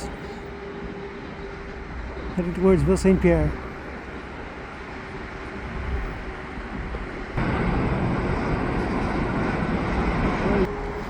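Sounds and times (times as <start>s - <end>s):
diesel train rumbling along tracks: 0.0s - 11.0s.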